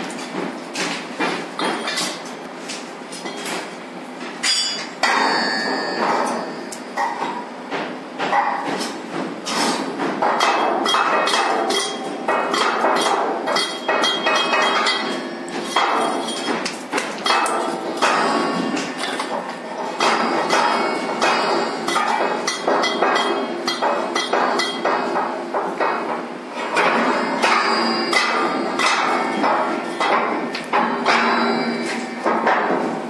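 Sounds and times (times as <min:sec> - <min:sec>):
metal clanks and knocks: 0:00.2 - 0:02.3, 0:04.4 - 0:33.0.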